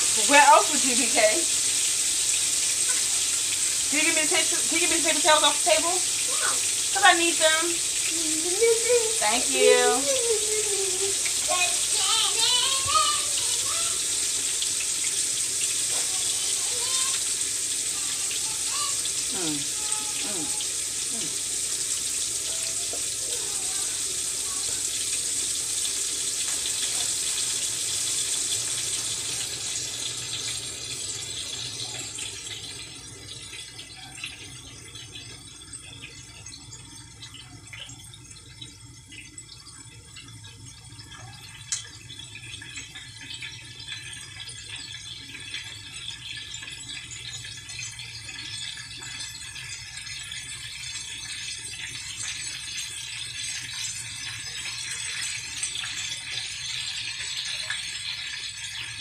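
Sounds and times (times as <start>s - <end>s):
food sizzling in oil: 0.0s - 59.0s.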